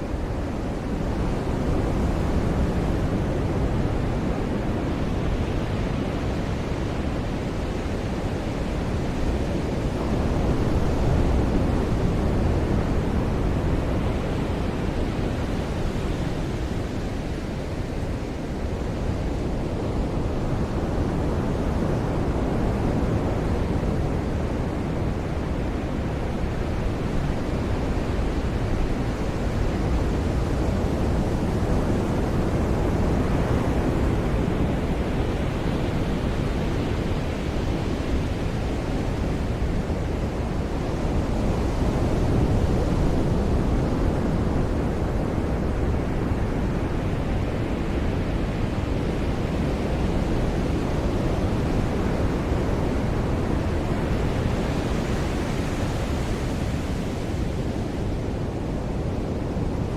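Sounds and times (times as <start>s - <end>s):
ocean surf on a beach: 0.0s - 59.9s.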